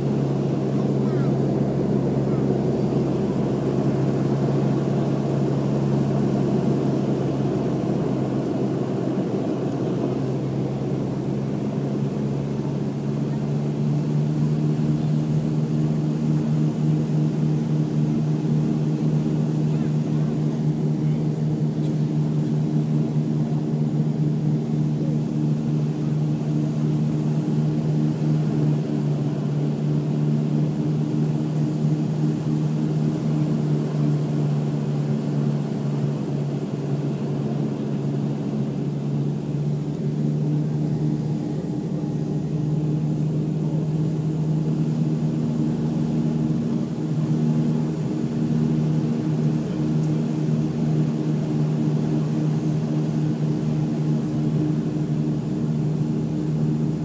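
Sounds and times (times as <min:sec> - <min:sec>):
turboprop engine drone in cabin: 0:00.0 - 0:57.0.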